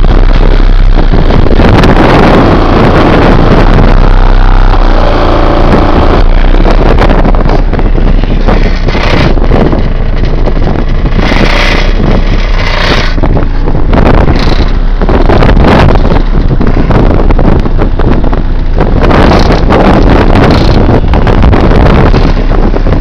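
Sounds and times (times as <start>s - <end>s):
subwoofer playing very low bass: 0.0s - 23.0s
wind buffeting microphone: 0.0s - 23.0s.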